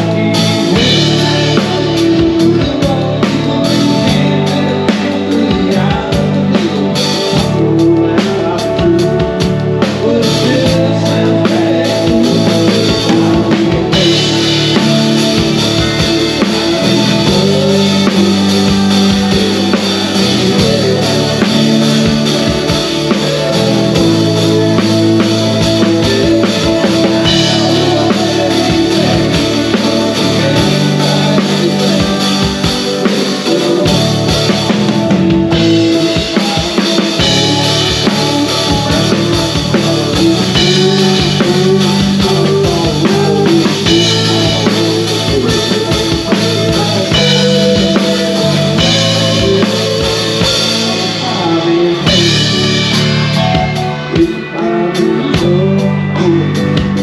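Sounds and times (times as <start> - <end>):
country band playing: 0.0 - 57.0
drum kit beat: 0.0 - 57.0.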